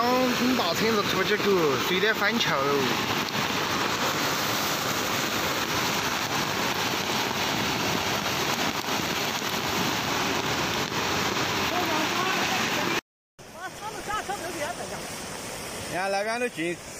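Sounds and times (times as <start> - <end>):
flooded creek rushing: 0.0 - 16.9.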